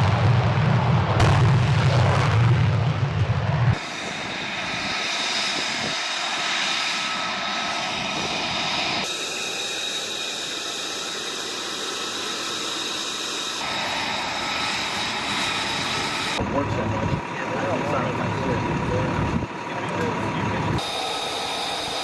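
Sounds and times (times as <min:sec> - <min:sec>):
jet engine whine: 0:00.0 - 0:22.0.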